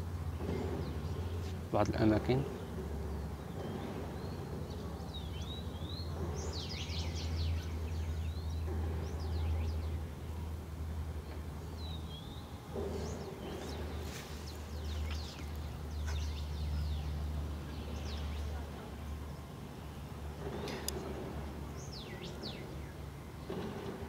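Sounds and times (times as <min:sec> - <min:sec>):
low background rumble: 0:00.0 - 0:24.0
small birds chirping: 0:00.0 - 0:24.0.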